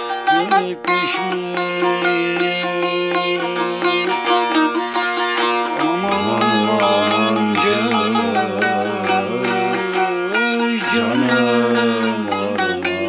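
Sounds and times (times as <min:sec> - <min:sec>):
folk music on plucked strings: 0:00.0 - 0:13.0.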